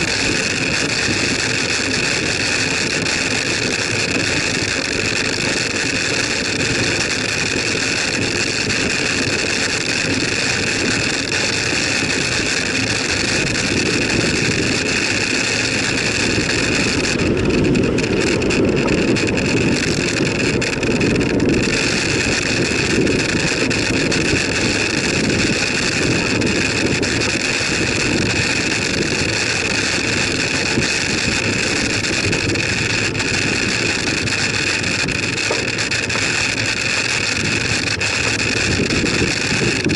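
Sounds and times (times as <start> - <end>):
high-pitched whine: 0.0 - 39.9
tyre and road noise: 0.0 - 39.9
wind buffeting microphone: 0.0 - 39.9.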